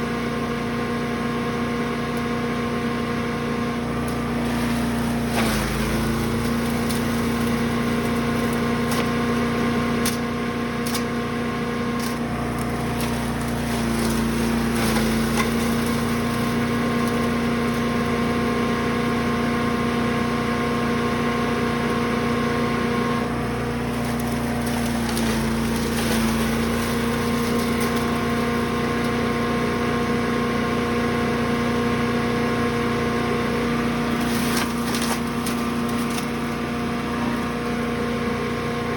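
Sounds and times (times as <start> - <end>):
chipper gas engine running: 0.0 - 38.9.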